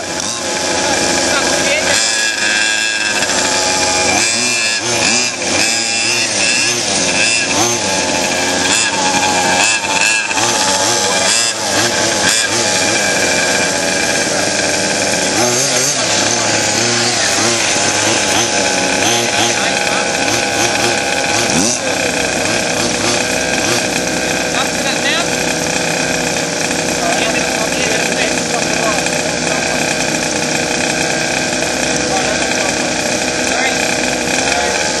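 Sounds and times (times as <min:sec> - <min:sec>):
small two-stroke engines revving: 0:00.0 - 0:35.0.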